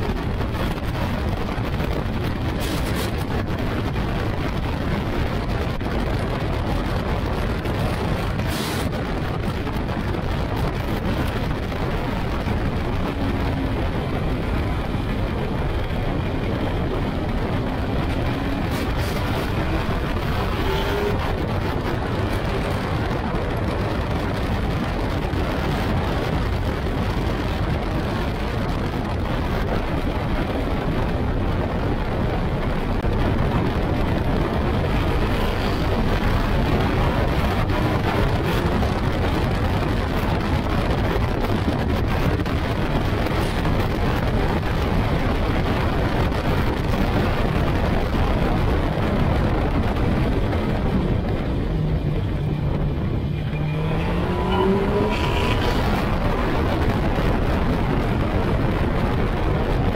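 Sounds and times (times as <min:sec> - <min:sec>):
engine running hard: 0:00.0 - 0:59.9
rush of wind: 0:00.0 - 0:59.9.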